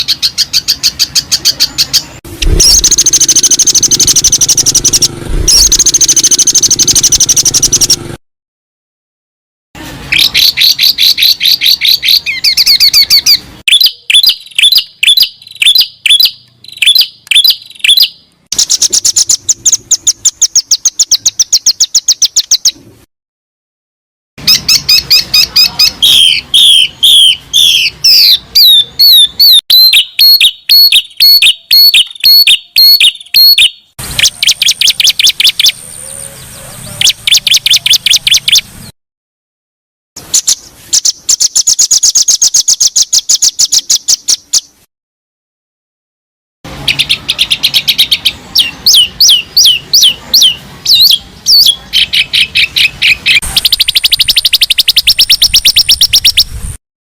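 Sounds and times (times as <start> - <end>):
songbirds chirping and trilling: 0.0 - 8.2, 10.1 - 23.0, 24.4 - 38.9, 40.2 - 44.9, 46.7 - 56.6.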